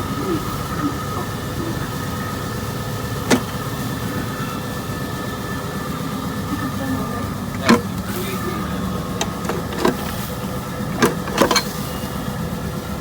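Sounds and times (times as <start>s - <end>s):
held tones: 0.0s - 12.1s
engine-like hum: 0.0s - 13.0s.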